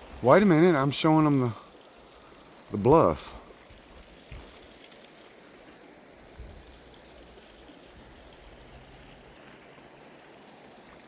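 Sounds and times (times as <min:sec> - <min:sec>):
faint flowing river water: 0:00.0 - 0:11.0.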